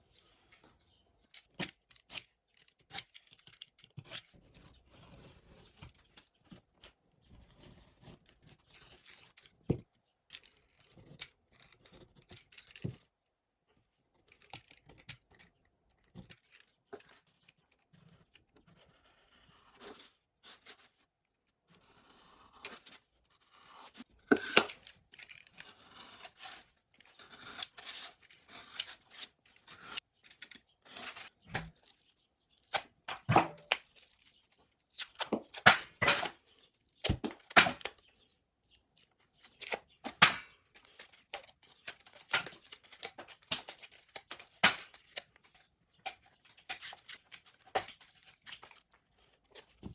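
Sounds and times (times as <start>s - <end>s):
scraping and tearing drywall: 0.1s - 13.2s, 13.8s - 38.4s, 39.0s - 49.9s.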